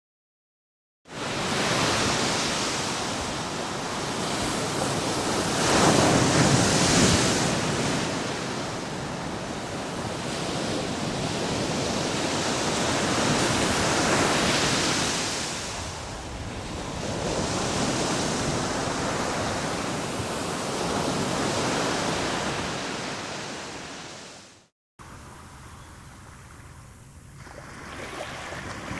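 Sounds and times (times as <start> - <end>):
ocean surf breaking: 1.2 - 24.6.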